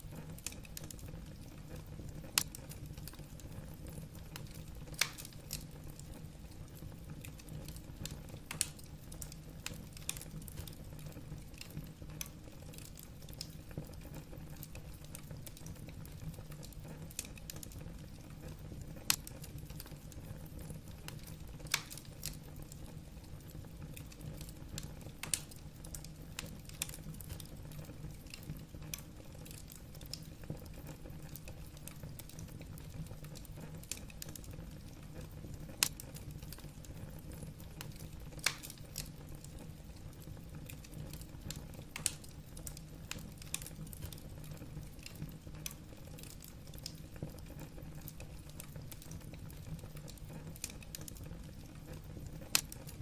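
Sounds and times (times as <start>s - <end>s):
burning logs crackling and popping: 0.0s - 53.0s
flames rumbling: 0.0s - 53.0s.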